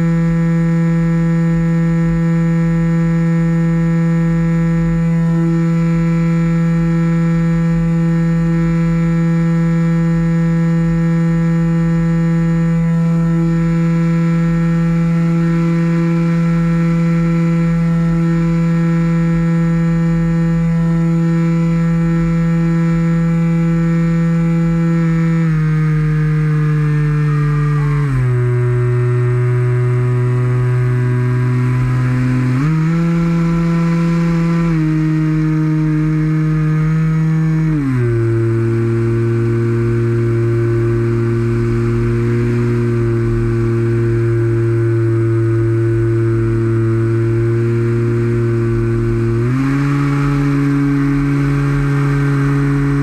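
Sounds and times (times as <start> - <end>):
model airplane motor droning: 0.0 - 53.0.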